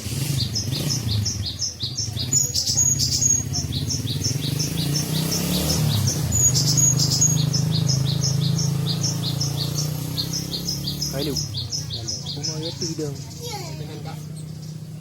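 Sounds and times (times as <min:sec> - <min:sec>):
higher whistled bird notes: 0:00.2 - 0:13.8.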